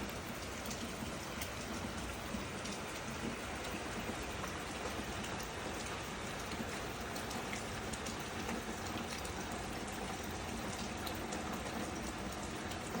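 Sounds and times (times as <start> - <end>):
rain pattering on surfaces: 0.0 - 13.0.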